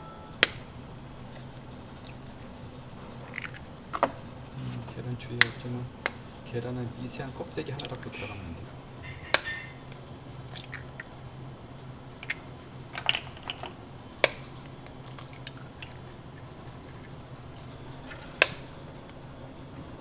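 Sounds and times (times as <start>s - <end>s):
low steady hum: 0.0s - 20.0s
eggs cracking: 0.4s - 20.0s.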